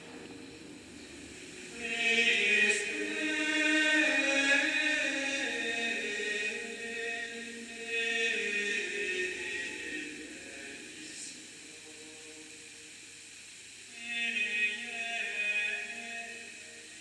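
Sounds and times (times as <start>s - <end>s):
choir of monks chanting: 0.0s - 12.9s, 13.9s - 17.0s.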